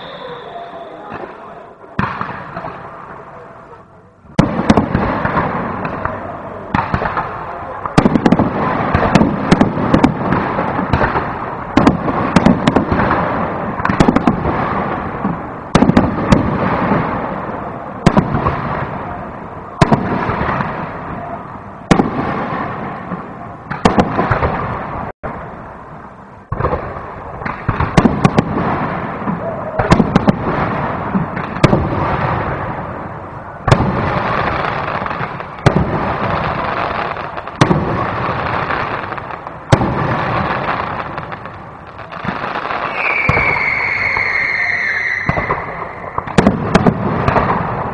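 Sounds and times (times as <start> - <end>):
fireworks crackling: 0.0 - 47.9.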